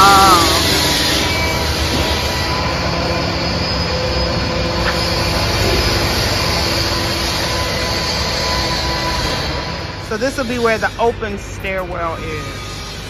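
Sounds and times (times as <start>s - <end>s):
construction machinery drone: 0.0s - 13.0s.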